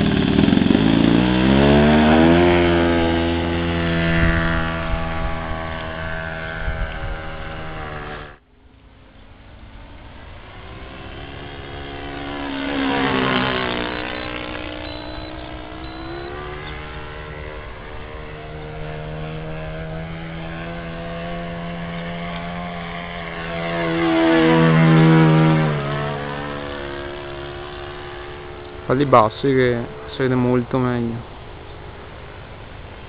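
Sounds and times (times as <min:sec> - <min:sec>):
model airplane engine passing: 0:00.0 - 0:33.0.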